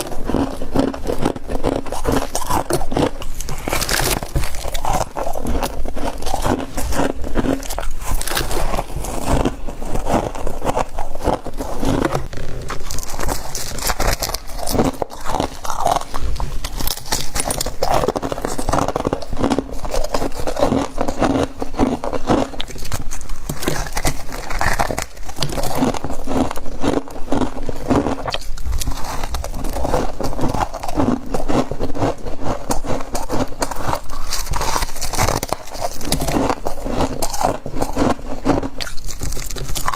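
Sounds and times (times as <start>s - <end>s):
person crunching frost: 0.0s - 39.9s.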